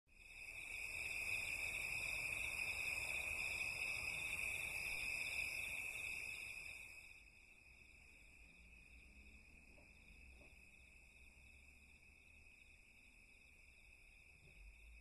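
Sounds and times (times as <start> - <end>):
night insects trilling: 0.1 - 15.0.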